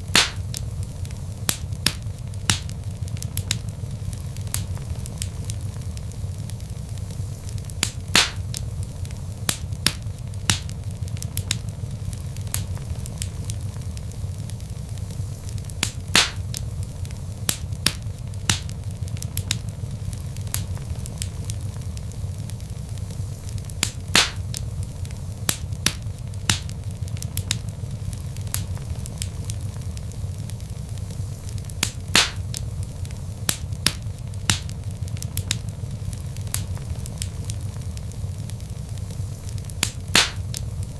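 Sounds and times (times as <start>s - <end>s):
fire crackling: 0.0s - 40.9s
loud pop from fire: 0.0s - 40.9s
low rumble of burning wood: 0.0s - 40.9s.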